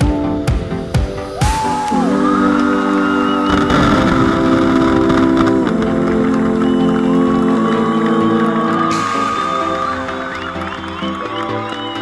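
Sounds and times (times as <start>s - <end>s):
music with held chords: 0.0s - 12.0s.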